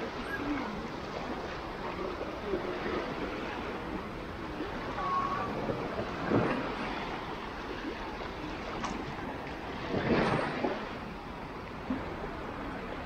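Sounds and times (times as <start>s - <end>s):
small waves lapping on sandy shore: 0.0s - 13.0s.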